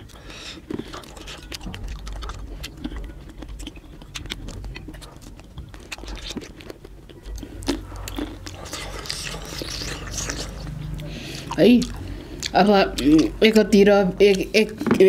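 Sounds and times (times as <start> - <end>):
chewing soft fruit: 0.0 - 15.0
low steady hum: 0.0 - 15.0.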